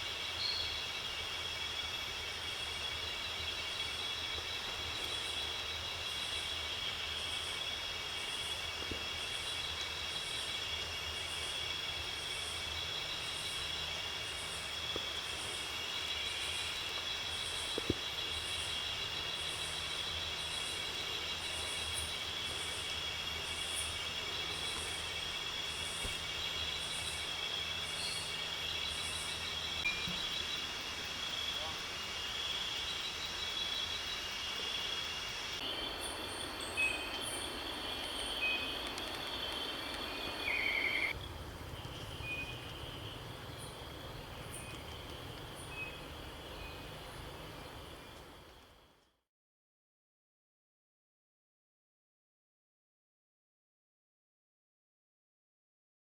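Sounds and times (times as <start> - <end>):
pulsing insect call: 0.0 - 48.2
insects trilling: 0.0 - 48.6.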